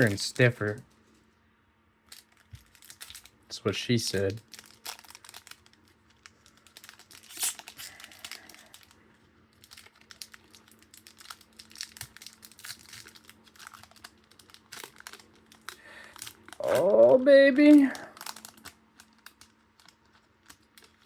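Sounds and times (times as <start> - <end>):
foil wrapper crinkling and tearing: 0.0 - 0.8, 2.0 - 21.0.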